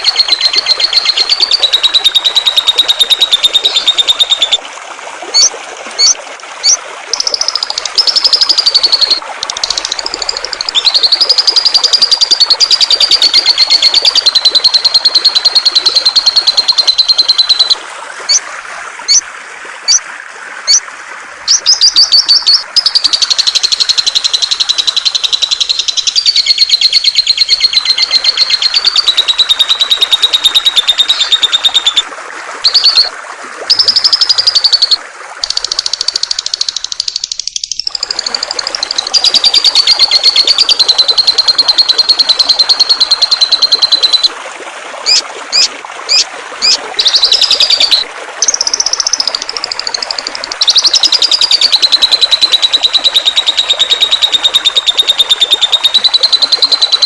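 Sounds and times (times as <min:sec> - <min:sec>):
songbird trilling: 0:00.0 - 0:04.6, 0:05.4 - 0:17.8, 0:21.5 - 0:32.0, 0:32.7 - 0:33.1, 0:33.7 - 0:44.3, 0:45.1 - 0:57.0
flowing water rushing: 0:00.0 - 0:57.0.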